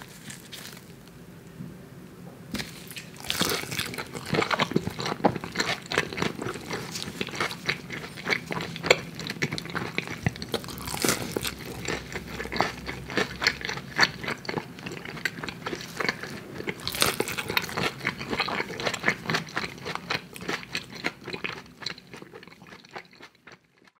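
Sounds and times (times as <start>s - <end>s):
crunching crisp food: 0.0s - 1.2s, 2.5s - 23.9s.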